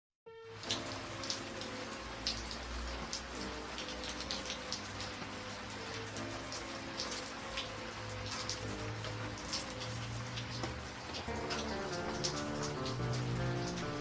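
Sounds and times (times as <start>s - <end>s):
raindrops splashing close by: 0.4s - 14.0s
steady rain hissing: 0.5s - 14.0s.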